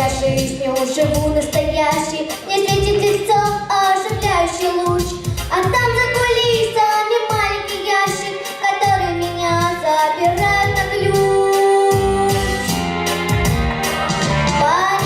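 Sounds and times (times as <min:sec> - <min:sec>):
girl singing pop song: 0:00.0 - 0:12.8, 0:14.5 - 0:15.0
bass and drum beat: 0:00.0 - 0:15.0.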